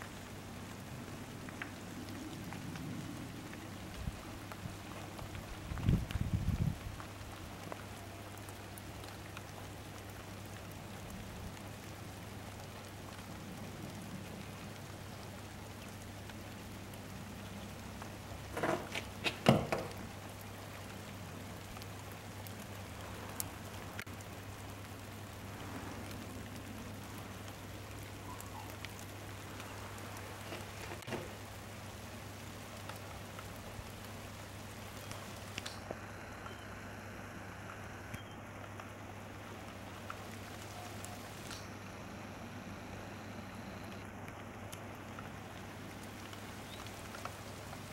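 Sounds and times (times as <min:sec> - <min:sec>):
light rain falling: 0:00.0 - 0:47.9.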